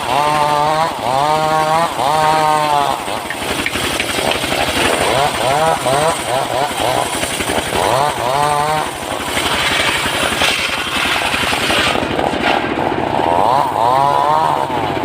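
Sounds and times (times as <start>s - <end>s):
engine-driven saw cutting wood: 0.0s - 15.0s.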